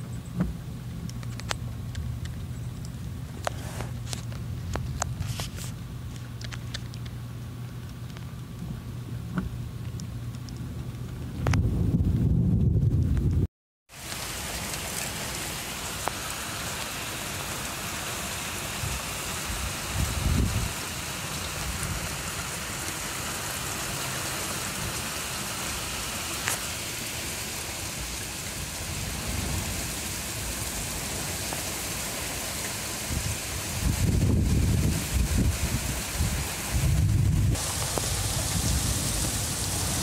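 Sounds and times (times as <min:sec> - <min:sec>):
steady rain falling: 0:00.0 - 0:11.6, 0:13.9 - 0:40.0
raindrops ticking: 0:00.1 - 0:11.6, 0:13.9 - 0:40.0.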